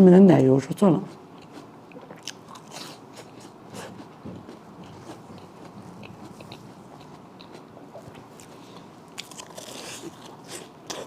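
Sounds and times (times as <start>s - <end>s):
crunchy chewing: 1.1s - 11.0s.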